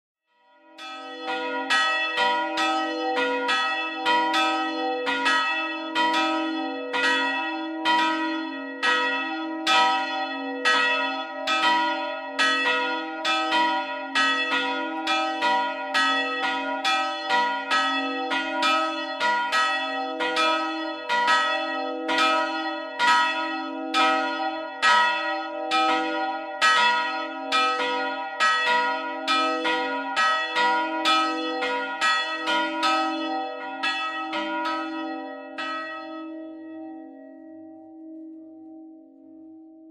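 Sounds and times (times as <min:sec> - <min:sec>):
church bells ringing: 0:00.5 - 0:39.9.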